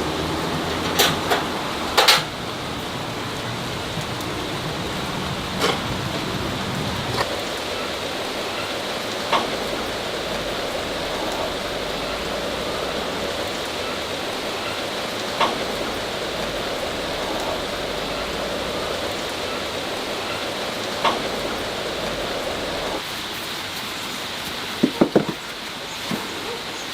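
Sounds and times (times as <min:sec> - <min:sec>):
rain-like hiss: 0:00.0 - 0:26.9.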